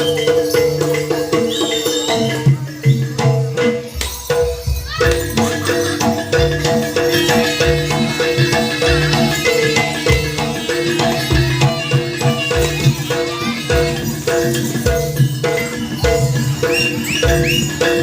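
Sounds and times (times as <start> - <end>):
metal tuned percussion ringing: 0.0 - 18.0.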